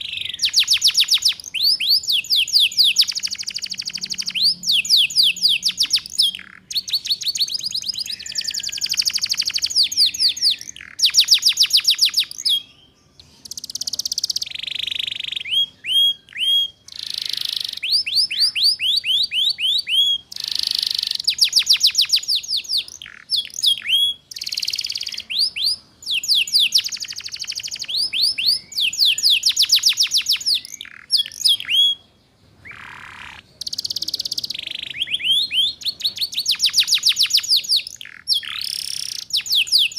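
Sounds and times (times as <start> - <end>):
canary singing trilled phrases: 0.0 - 39.9.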